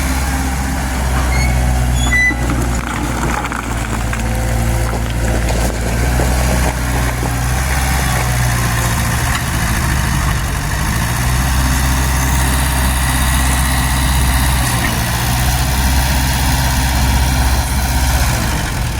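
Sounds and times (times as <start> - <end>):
heavy diesel engine idling: 0.0 - 18.9.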